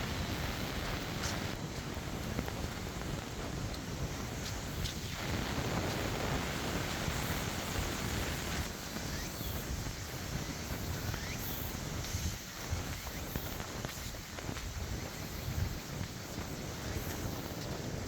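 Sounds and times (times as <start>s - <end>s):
rain hiss: 0.0s - 18.0s
wind buffeting microphone: 0.0s - 18.0s.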